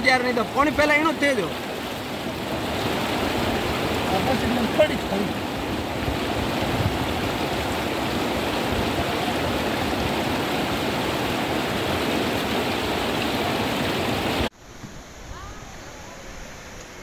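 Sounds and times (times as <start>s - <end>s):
floodwater rushing: 0.0s - 14.5s.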